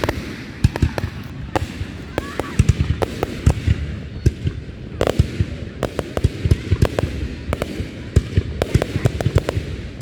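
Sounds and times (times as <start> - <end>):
distant explosions rumbling: 0.0 - 10.0
fireworks bangs: 0.0 - 10.0.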